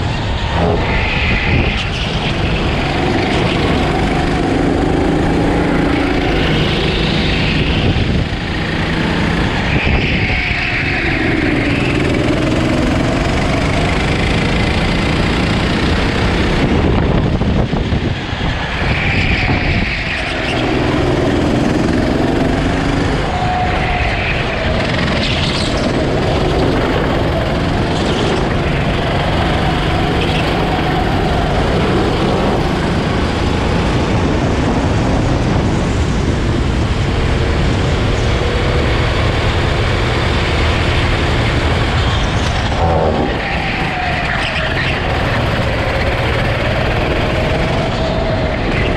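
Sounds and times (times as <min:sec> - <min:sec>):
go-kart engine running: 0:00.0 - 0:48.9.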